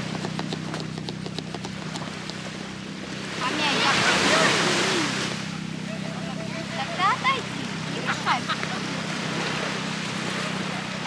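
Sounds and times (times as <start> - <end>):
boat engine idling hum: 0.0 - 11.0.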